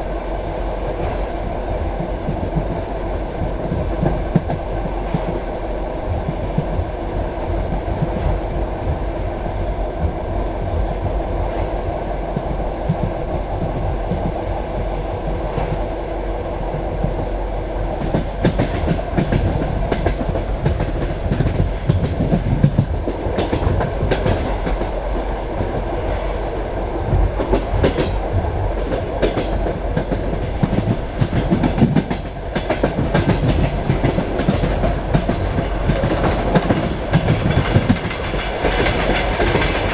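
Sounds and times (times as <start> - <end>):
clickety-clack over rail joints: 0.0 - 39.9
train wheels rumbling on rail: 0.0 - 39.9.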